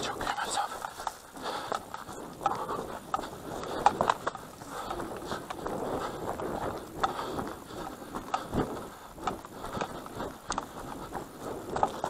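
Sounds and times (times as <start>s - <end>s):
footsteps on dry grass and stones: 0.0s - 12.0s.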